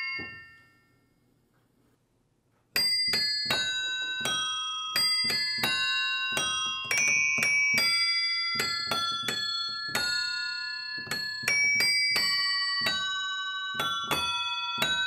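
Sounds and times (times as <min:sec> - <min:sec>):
hammers striking tuned metal bells: 0:02.8 - 0:15.0.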